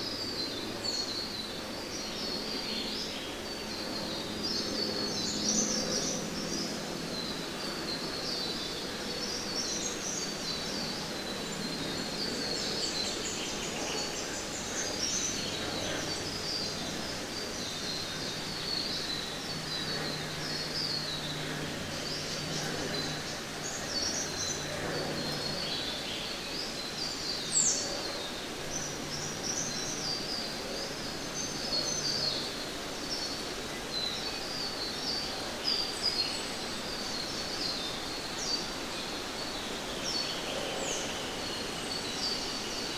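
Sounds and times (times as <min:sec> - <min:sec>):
insects: 0:00.0 - 0:42.9
steady background hiss: 0:00.0 - 0:42.9.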